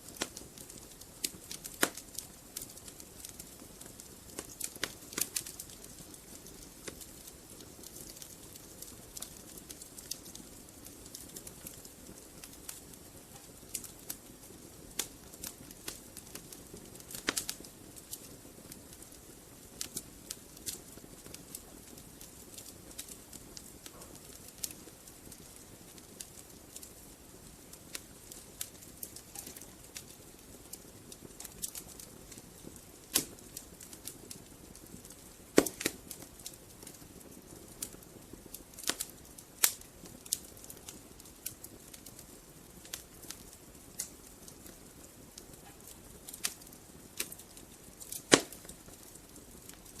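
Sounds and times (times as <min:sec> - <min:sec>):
fire hissing: 0:00.0 - 0:44.7, 0:45.4 - 0:50.0
burning logs crackling and popping: 0:00.0 - 0:50.0.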